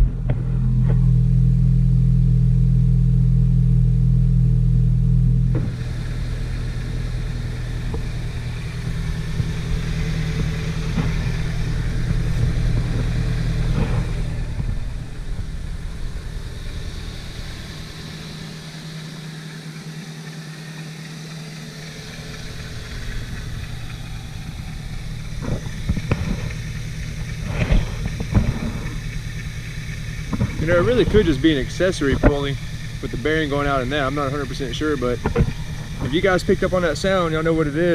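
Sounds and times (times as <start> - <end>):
sharp engine knocks: 0.0 - 1.2, 5.5 - 37.9
car engine idling: 0.0 - 37.9.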